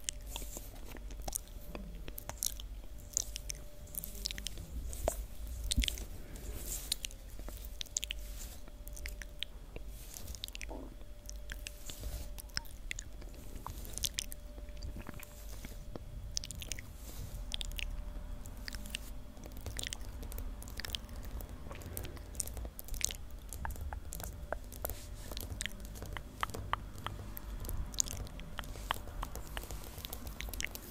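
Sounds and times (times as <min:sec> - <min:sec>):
wet mouth sounds: 0:00.0 - 0:30.9.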